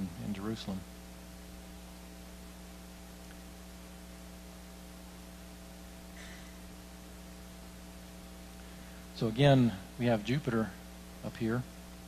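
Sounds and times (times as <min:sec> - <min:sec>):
electrical mains hum: 0:00.0 - 0:12.0
microphone hiss: 0:00.0 - 0:12.0.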